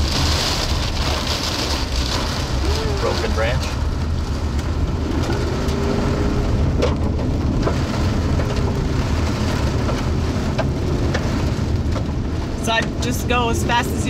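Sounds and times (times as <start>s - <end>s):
car driving rumble: 0.0s - 14.0s
heavy rain on car roof: 0.0s - 14.0s.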